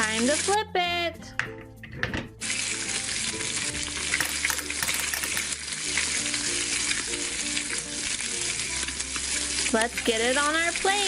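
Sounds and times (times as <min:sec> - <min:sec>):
frying sizzle: 0:00.0 - 0:00.6, 0:02.3 - 0:11.0
soft background music: 0:00.0 - 0:11.0.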